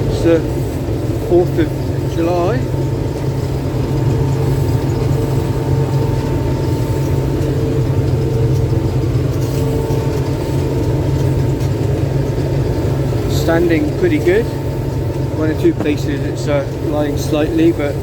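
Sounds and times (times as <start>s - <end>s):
combine harvester engine drone: 0.0s - 18.0s
high machinery tones: 0.0s - 18.0s.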